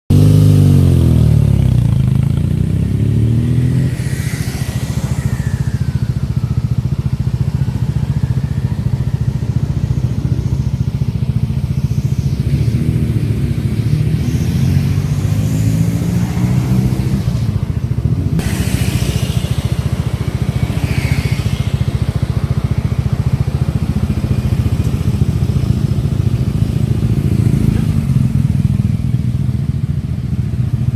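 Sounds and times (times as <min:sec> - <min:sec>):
motorcycle engine idling and revving: 0:00.1 - 0:30.9.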